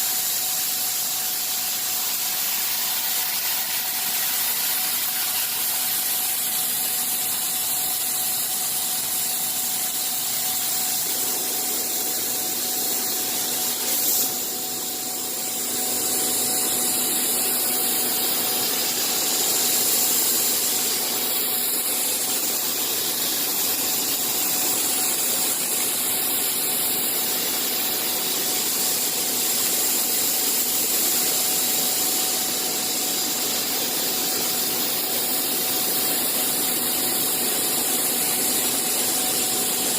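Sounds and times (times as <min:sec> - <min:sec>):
cnc machine running: 0:00.2 - 0:39.9.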